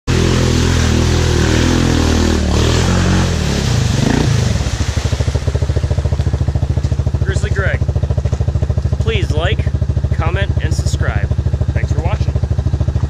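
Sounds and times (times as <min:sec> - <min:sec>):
quad bike engine running: 0:00.1 - 0:13.0.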